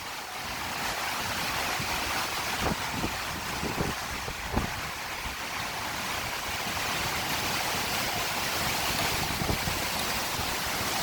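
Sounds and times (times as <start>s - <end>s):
hurricane wind and heavy rain: 0.0s - 11.0s
wind buffeting microphone: 0.6s - 11.0s.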